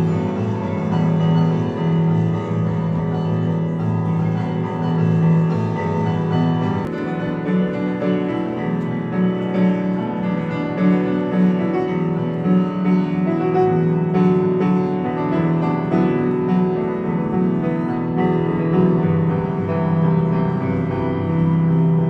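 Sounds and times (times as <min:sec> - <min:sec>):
solo piano chords: 0:00.0 - 0:22.0.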